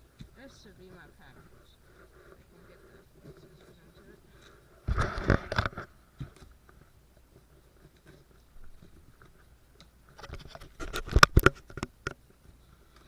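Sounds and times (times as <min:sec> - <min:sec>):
faint rustling: 0:00.0 - 0:13.0.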